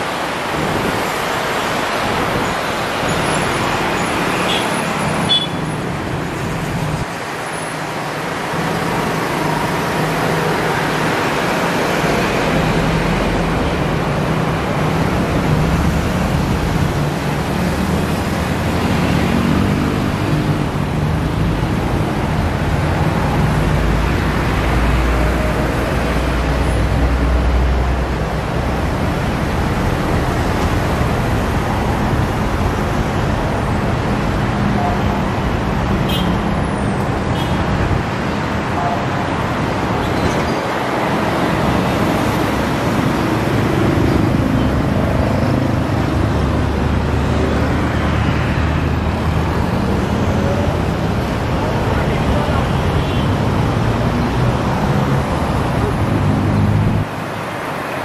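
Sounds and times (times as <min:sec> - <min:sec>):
passing vehicles: 0:00.0 - 0:58.0.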